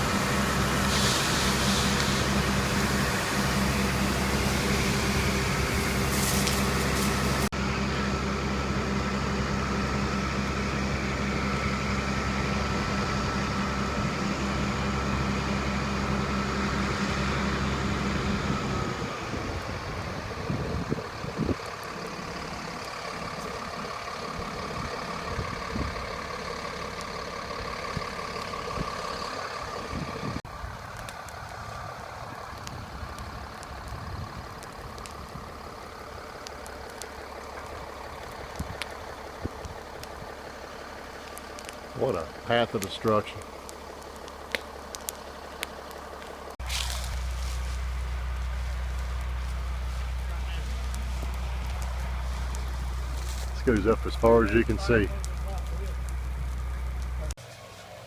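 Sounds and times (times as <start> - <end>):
vehicle engine running steadily: 0.0 - 58.0.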